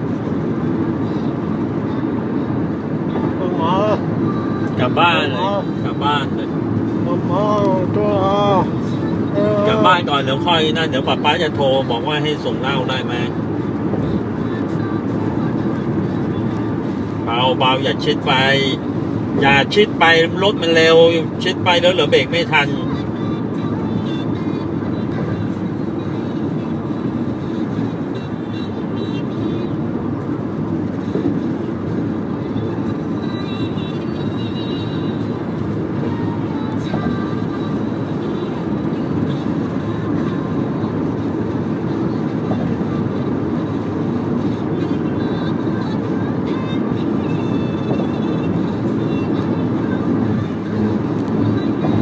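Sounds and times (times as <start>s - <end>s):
in-cabin road and engine rumble: 0.0s - 52.0s.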